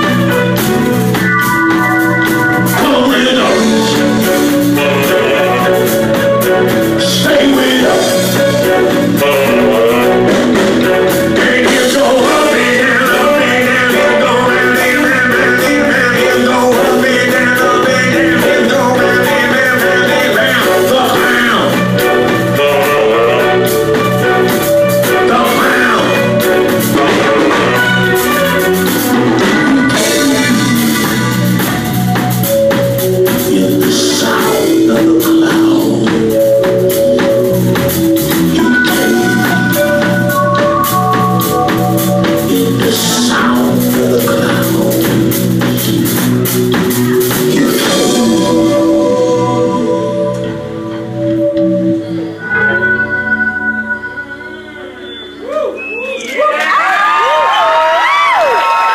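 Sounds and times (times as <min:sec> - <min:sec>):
drum kit steady beat: 0:00.0 - 0:52.0
guitar playing: 0:00.0 - 0:55.8.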